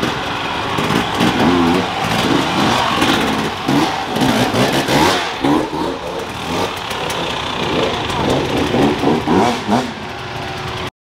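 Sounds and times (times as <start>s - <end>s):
dirt bike engines revving: 0.0s - 10.9s.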